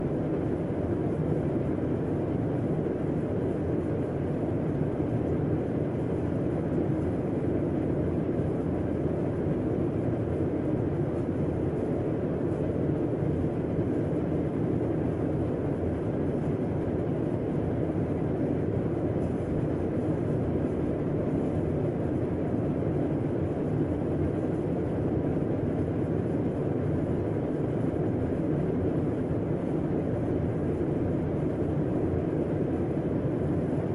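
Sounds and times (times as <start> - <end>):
air conditioner humming: 0.0 - 33.9.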